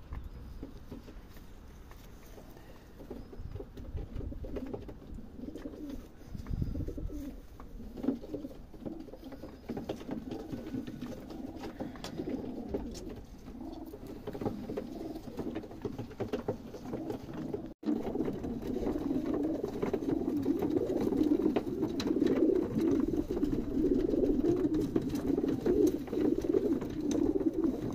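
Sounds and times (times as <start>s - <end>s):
pigeons cooing: 2.2s - 27.9s.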